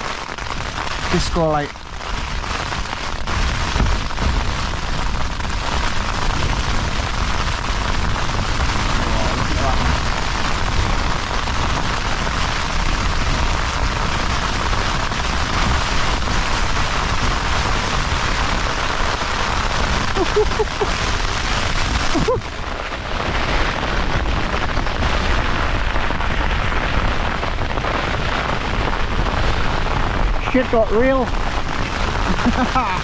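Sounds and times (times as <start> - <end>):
heavy rain on tent fabric: 0.0 - 33.0.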